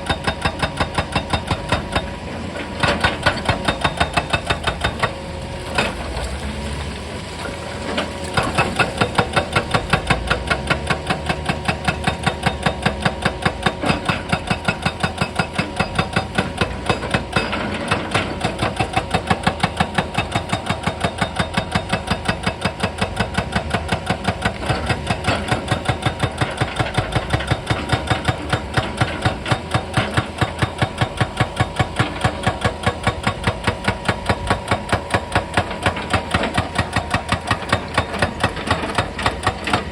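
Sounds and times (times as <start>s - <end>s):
hydraulic breaker hammering rock: 0.0s - 6.3s, 7.8s - 39.9s
diesel engine running: 0.0s - 39.9s.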